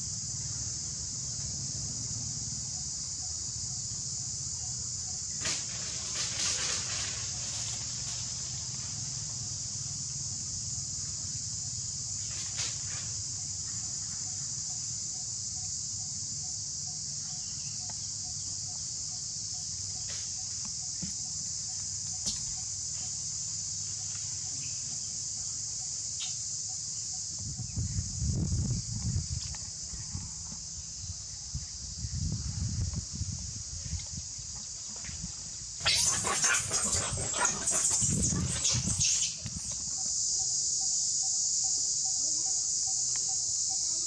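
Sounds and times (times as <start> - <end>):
insect chorus: 0.0 - 44.0.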